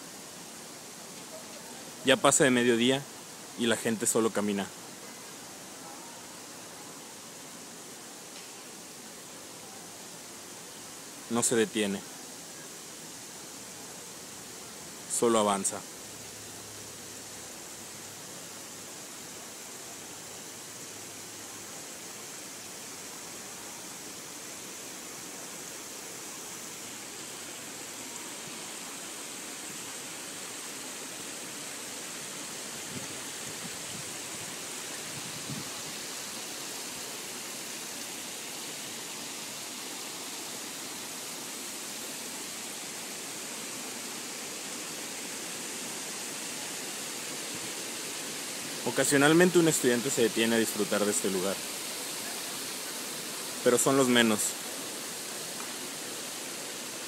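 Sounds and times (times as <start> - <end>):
fountain water rushing: 0.0 - 57.0.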